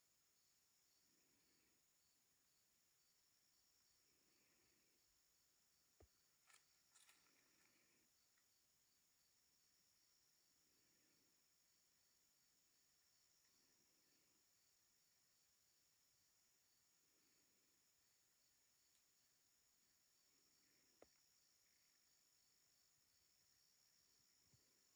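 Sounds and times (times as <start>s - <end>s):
soft insect pulse: 1.0s - 24.9s.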